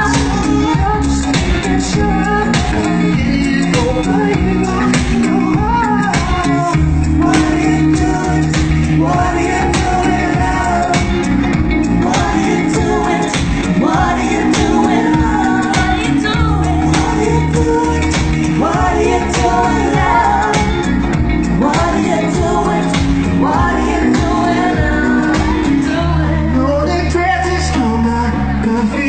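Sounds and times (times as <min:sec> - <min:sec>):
heavy bass line: 0:00.0 - 0:29.0
pop song with singing: 0:00.0 - 0:29.0.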